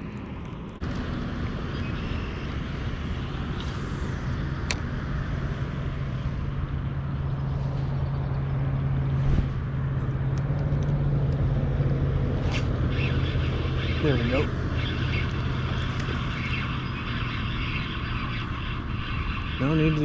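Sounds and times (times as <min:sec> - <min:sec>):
motor boat engine humming: 0:00.8 - 0:20.0.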